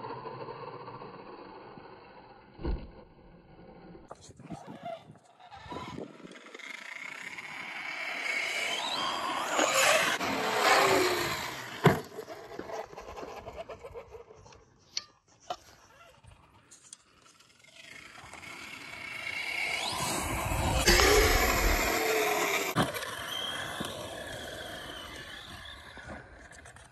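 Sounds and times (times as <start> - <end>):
toy truck motor whine: 0.0 - 2.6, 4.7 - 14.7, 15.6 - 26.9.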